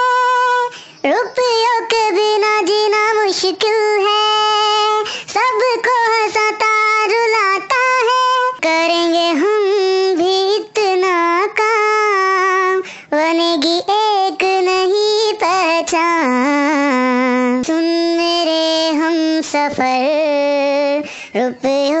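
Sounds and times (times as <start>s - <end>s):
high voice singing: 0.0s - 22.0s.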